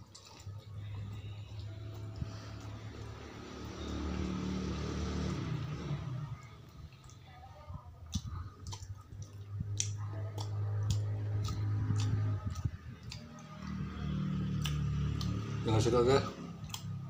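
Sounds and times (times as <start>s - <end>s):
person chewing food: 0.0s - 5.6s, 8.0s - 15.6s, 16.3s - 17.0s
low steady hum: 0.0s - 15.7s.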